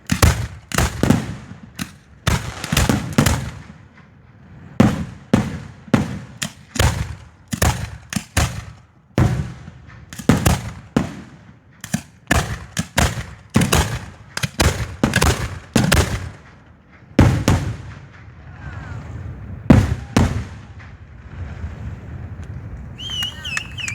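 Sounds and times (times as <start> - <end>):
fireworks bangs: 0.0 - 23.9.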